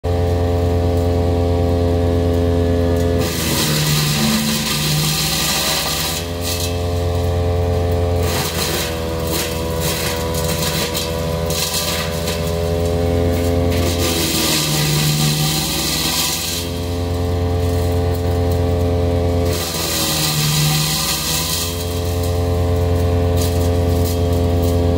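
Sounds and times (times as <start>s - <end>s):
wood chipper engine running: 0.0s - 24.9s
wood grinding in chipper: 0.0s - 24.9s.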